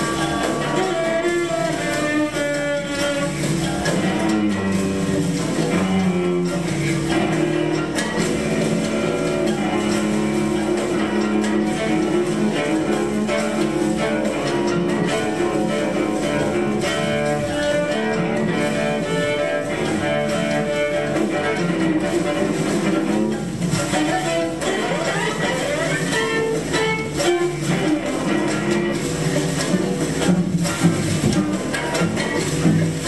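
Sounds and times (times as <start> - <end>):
cello playing low notes: 0.0 - 32.8.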